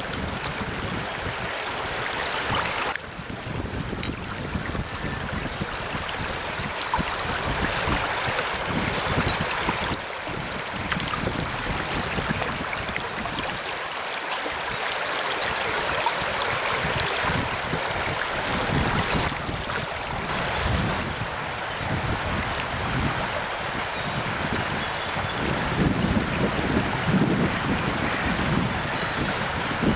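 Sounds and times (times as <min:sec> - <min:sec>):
wind buffeting microphone: 0:00.0 - 0:13.6, 0:15.5 - 0:29.9
river water rushing: 0:00.0 - 0:29.9.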